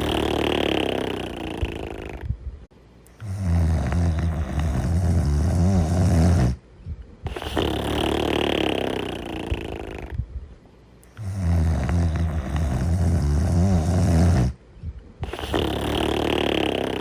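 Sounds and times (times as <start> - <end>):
person snoring: 0.0 - 2.3, 3.2 - 6.6, 7.3 - 10.2, 11.1 - 14.6, 15.2 - 17.0.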